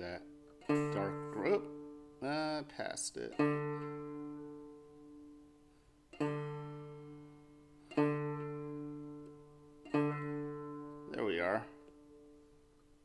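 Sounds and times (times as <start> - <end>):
banjo string plucked: 0.0 - 13.0.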